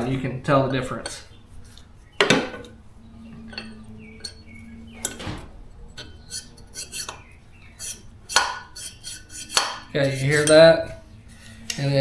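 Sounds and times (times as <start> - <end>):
metal valve scraping and clicking: 0.9 - 12.0.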